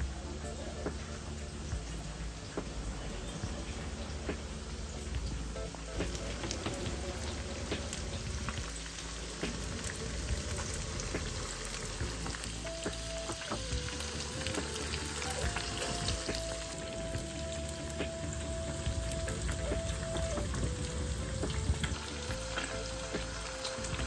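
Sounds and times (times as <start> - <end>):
food frying in hot oil: 0.0 - 24.0
oil crackling and popping: 0.0 - 24.0.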